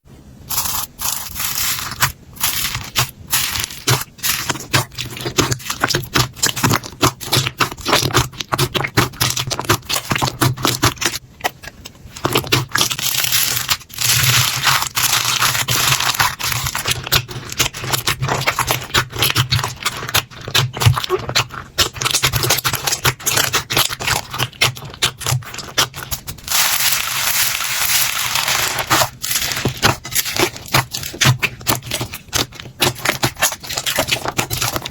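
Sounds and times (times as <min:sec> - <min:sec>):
slime squeezed with wet pops: 0:00.5 - 0:34.9.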